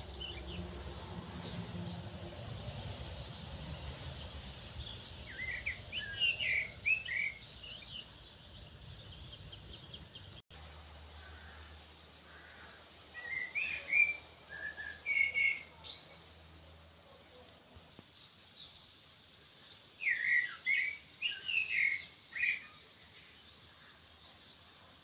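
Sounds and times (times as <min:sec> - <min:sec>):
small songbirds chirping: 0:00.0 - 0:25.0.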